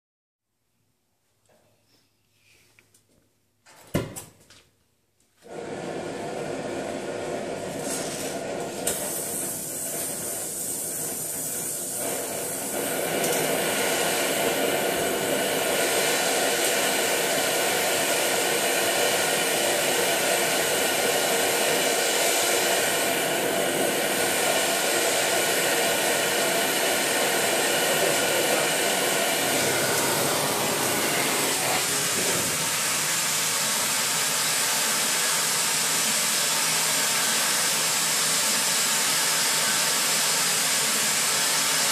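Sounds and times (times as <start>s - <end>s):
cutting torch hissing: 5.4s - 41.9s.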